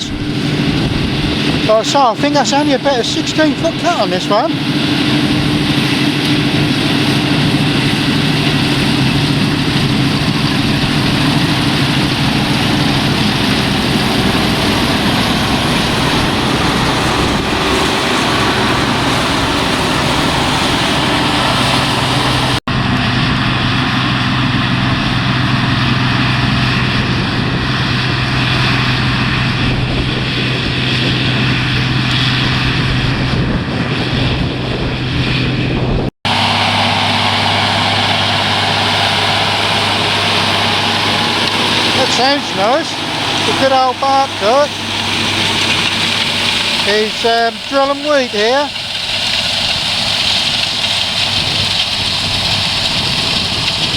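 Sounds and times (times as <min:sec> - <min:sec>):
combine harvester droning: 0:00.0 - 0:53.9.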